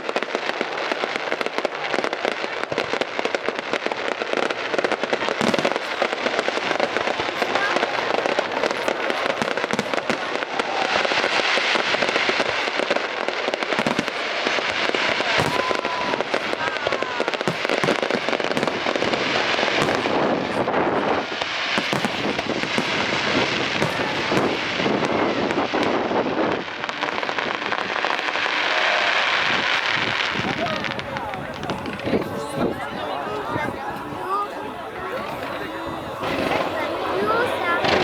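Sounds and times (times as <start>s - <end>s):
fireworks crackling and popping: 0.0s - 38.0s.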